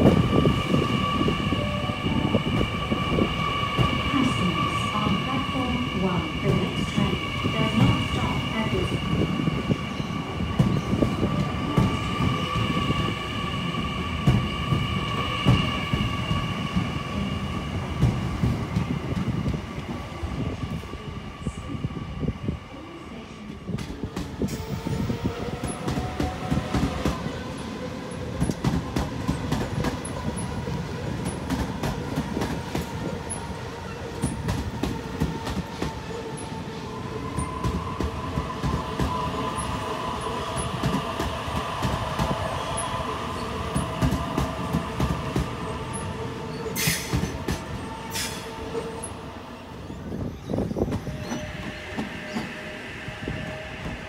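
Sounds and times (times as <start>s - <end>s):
electric train rumbling past: 0.0s - 54.0s.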